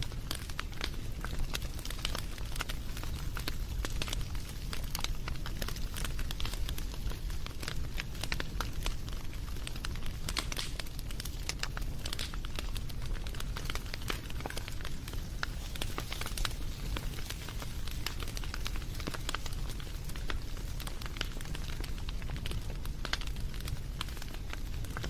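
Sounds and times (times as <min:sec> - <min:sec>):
campfire crackling and popping: 0:00.0 - 0:25.0
low rumble of flames: 0:00.0 - 0:25.0.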